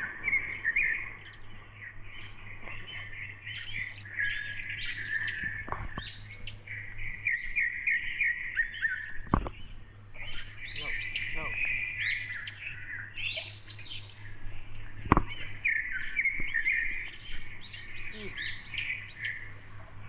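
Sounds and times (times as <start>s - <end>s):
small birds chirping and trilling: 0.0s - 20.0s.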